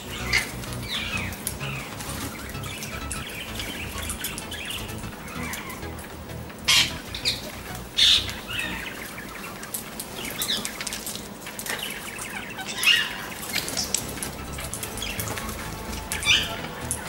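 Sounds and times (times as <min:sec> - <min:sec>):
parrots calling: 0:00.0 - 0:17.0.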